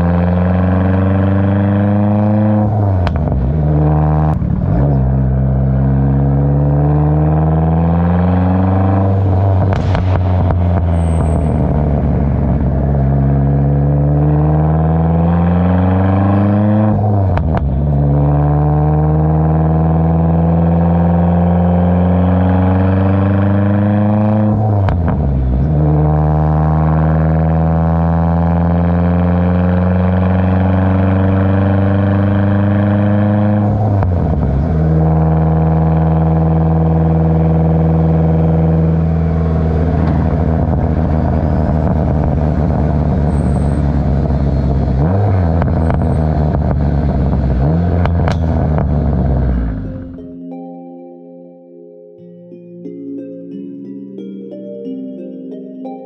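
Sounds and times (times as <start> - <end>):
turbocharged car engine accelerating: 0.0 - 50.2.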